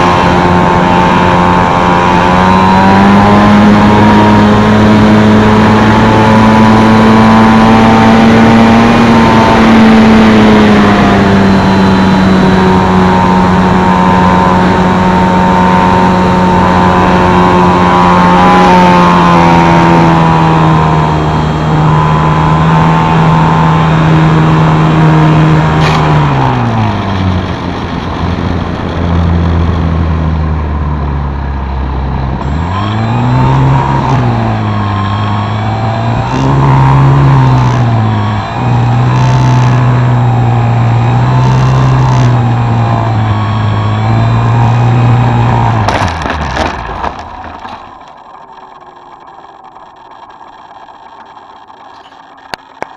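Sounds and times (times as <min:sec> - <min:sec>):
electric motor and propeller: 0:00.0 - 0:52.9.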